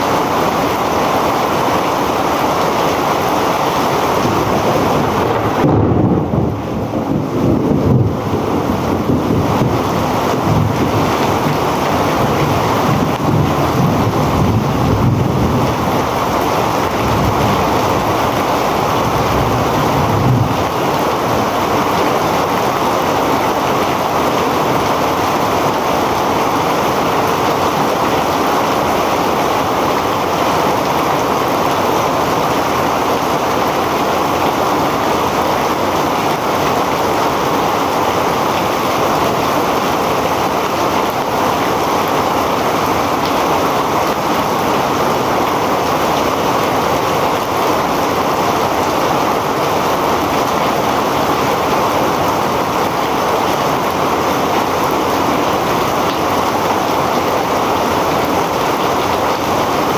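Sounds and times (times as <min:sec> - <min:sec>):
heavy rain pouring: 0:00.0 - 0:59.9
wind gusting on microphone: 0:00.2 - 0:59.9.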